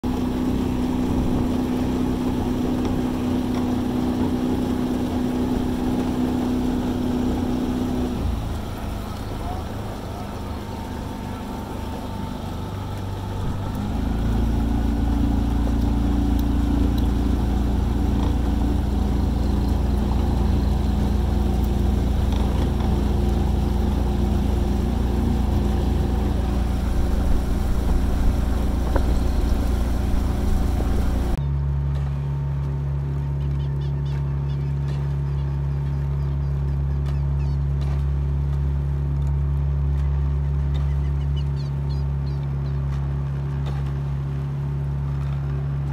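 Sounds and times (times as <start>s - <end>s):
motorboat engine running: 0.0s - 45.9s.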